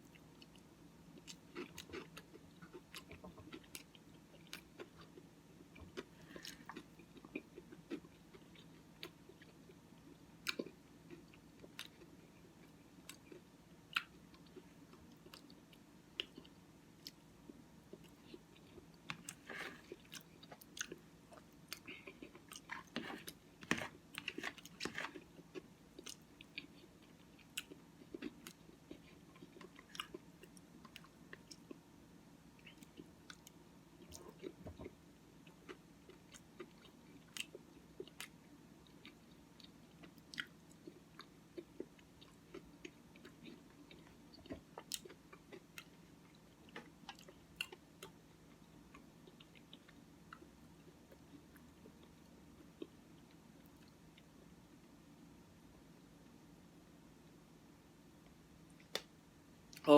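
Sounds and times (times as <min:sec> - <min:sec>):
person chewing cereal: 0:00.0 - 0:31.8, 0:32.6 - 0:55.0
faint low hum: 0:00.0 - 0:59.9.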